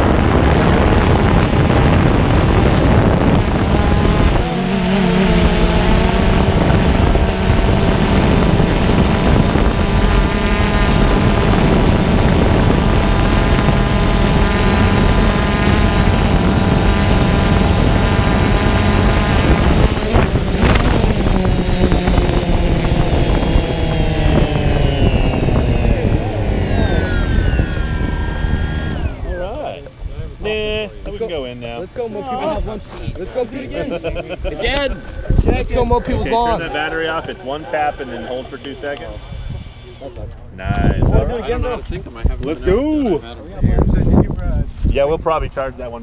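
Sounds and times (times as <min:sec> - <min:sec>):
wind noise: 0:00.0 - 0:30.9, 0:34.6 - 0:37.6, 0:39.1 - 0:46.0
drone rotors buzzing: 0:00.0 - 0:32.7, 0:33.8 - 0:43.2.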